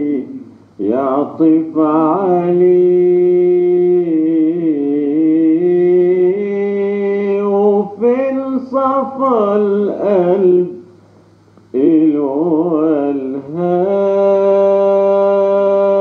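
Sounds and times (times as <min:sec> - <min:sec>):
man singing: 0:00.0 - 0:10.9, 0:11.7 - 0:16.0.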